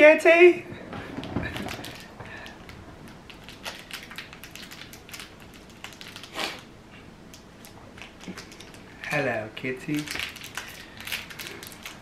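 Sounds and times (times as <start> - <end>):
plastic wrapper crinkling: 0.9 - 6.7, 7.3 - 12.0.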